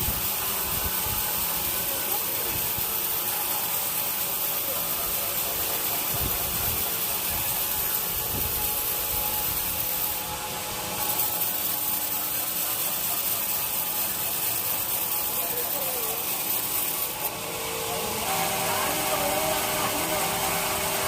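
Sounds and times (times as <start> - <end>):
faint machine hum: 0.0 - 21.0
saw blade cutting wood: 0.0 - 21.0.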